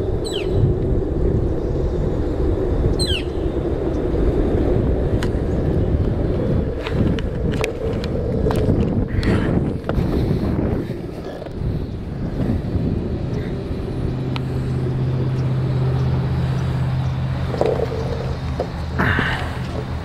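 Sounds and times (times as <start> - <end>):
skateboard wheels rolling on concrete: 0.0 - 20.0.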